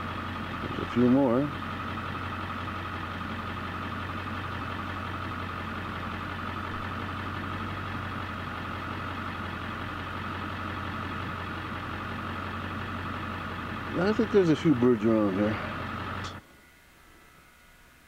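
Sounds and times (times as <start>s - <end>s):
vehicle engine idling: 0.0s - 16.6s.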